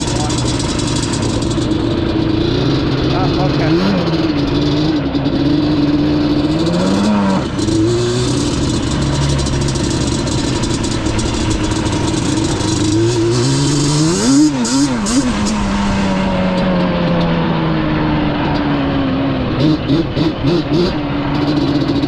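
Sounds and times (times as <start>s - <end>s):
two-stroke engine revving: 0.0s - 22.0s.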